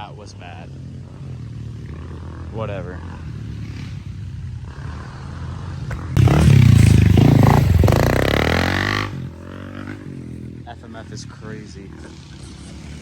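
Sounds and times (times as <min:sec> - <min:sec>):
dirt bike passing at high revs: 0:00.0 - 0:13.0.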